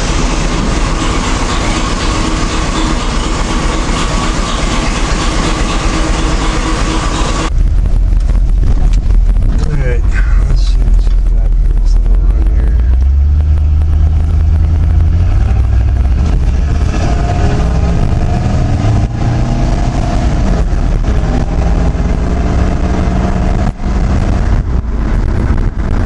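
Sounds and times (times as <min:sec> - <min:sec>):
pickup truck engine accelerating: 0:00.0 - 0:26.0.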